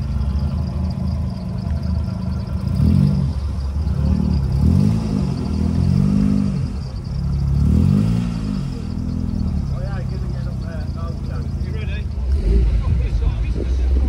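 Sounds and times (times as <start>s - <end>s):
car engine idling: 0.0s - 14.0s
car engine revving: 0.0s - 14.0s.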